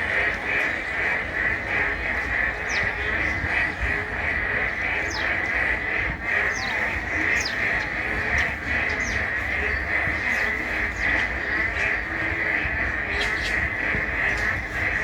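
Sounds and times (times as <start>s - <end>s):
frogs calling: 0.0s - 15.0s.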